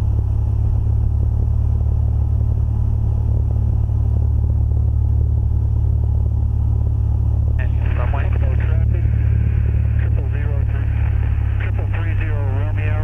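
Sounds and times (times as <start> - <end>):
airplane engine and propeller droning: 0.0 - 13.0.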